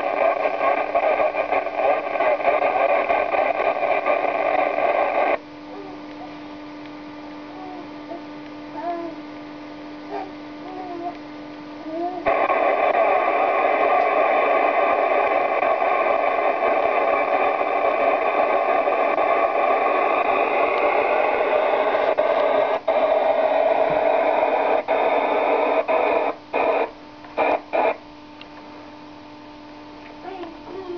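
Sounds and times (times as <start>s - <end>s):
radio static hiss: 0.0s - 30.9s.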